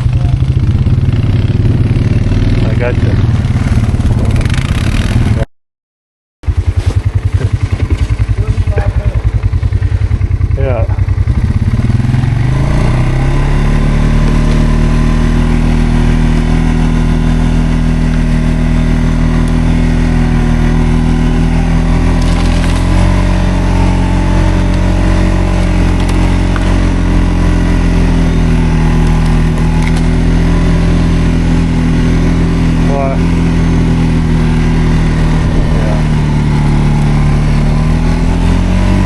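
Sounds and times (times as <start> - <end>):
quad bike engine under load: 0.0 - 5.5, 6.4 - 39.0.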